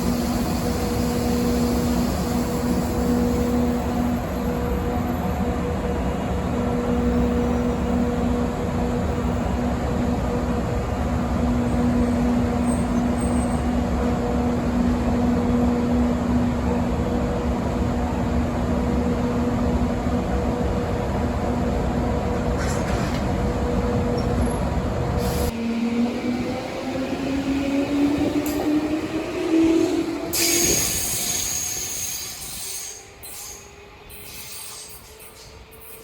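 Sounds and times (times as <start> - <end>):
train rumbling past: 0.0 - 36.0.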